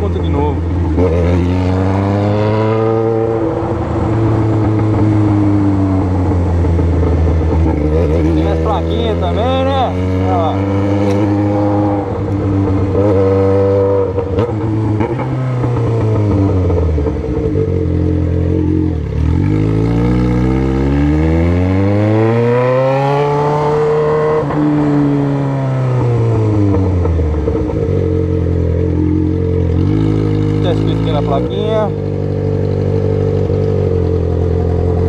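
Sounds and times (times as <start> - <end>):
motorcycle engine through exhaust: 0.0 - 35.0.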